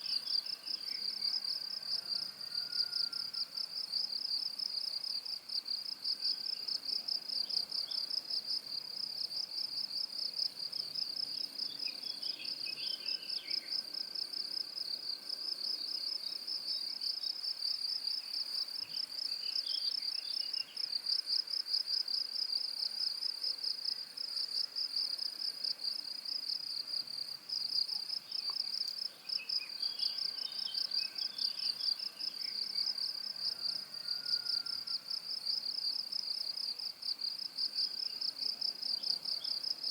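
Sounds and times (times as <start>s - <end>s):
cricket chirping trill: 0.0s - 39.9s.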